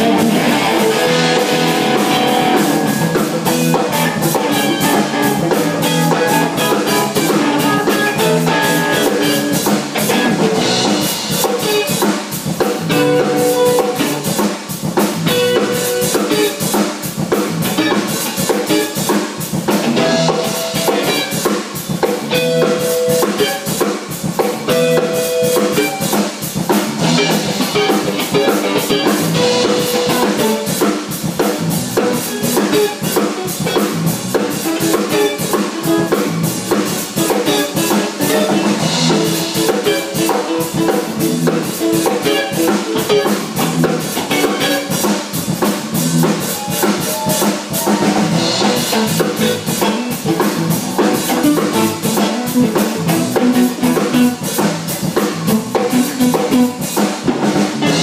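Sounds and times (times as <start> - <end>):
band playing live: 0.0 - 58.0
drum kit beat: 0.0 - 58.0.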